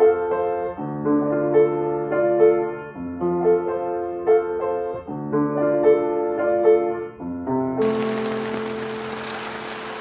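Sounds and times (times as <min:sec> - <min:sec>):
upright piano melody: 0:00.0 - 0:10.0.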